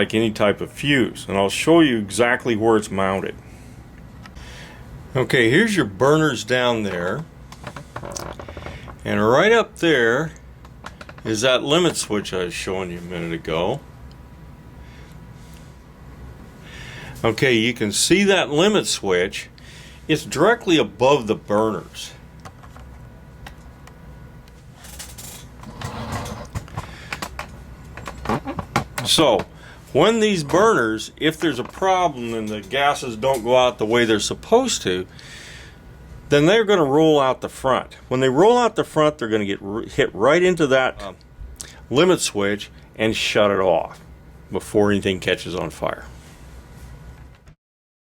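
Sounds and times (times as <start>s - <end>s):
low background hum: 0.0s - 47.6s.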